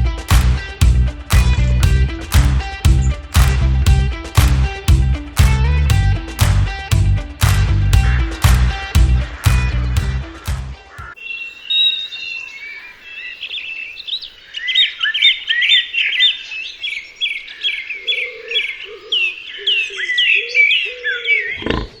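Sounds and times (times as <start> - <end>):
high downward-slurred birdsong: 0.0 - 22.0.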